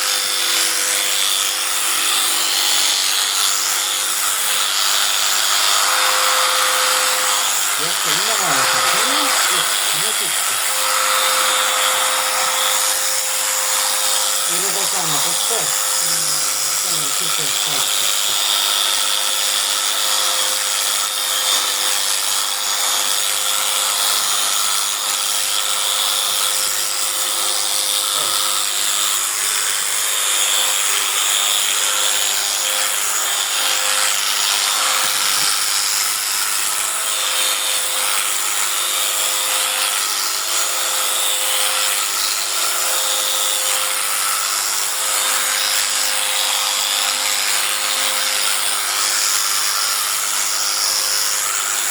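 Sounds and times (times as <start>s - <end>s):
small motor whining: 0.0s - 51.9s.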